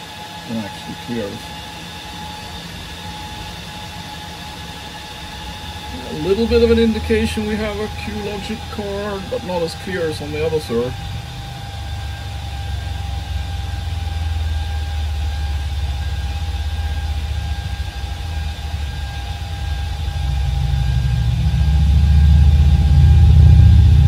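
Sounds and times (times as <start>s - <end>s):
faint fan whine: 0.0s - 24.0s
server fans droning: 0.0s - 24.0s.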